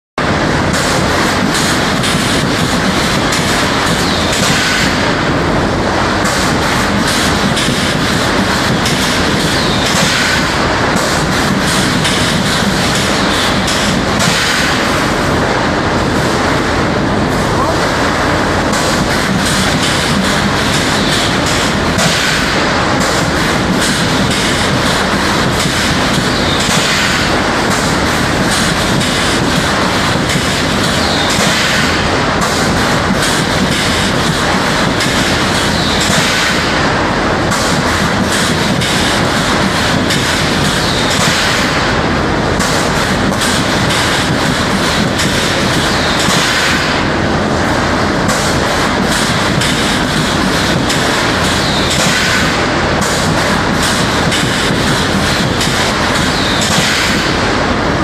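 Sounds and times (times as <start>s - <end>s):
welding machine clatter: 0.2s - 58.0s.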